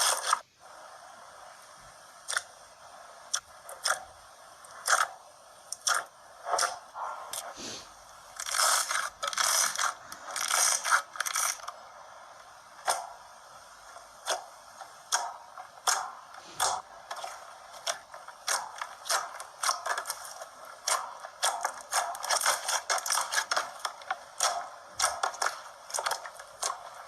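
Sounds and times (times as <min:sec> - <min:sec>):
slime crackling and popping: 0:00.0 - 0:00.5, 0:02.1 - 0:07.5, 0:08.1 - 0:27.0.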